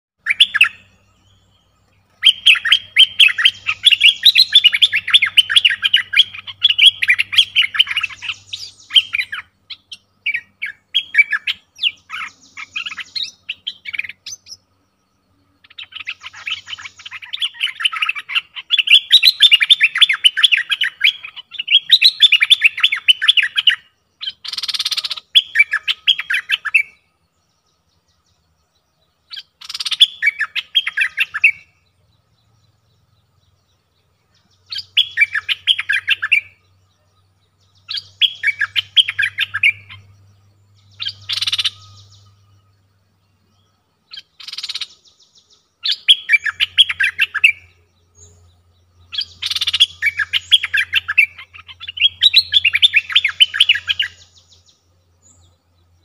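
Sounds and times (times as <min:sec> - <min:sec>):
songbird chirping and twittering: 0:00.2 - 0:56.0.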